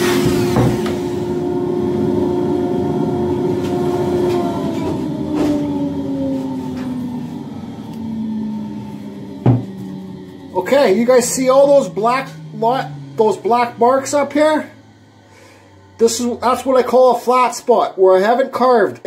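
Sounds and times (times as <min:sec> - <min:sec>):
rotary tool whining: 0:00.2 - 0:17.5.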